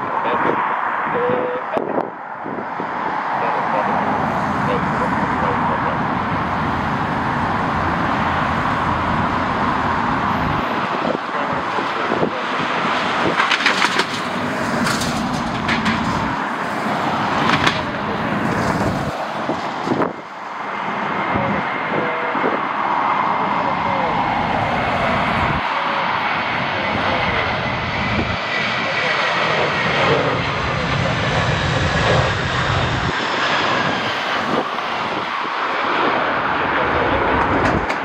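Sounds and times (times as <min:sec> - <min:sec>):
wind gusting on microphone: 0:00.0 - 0:38.0.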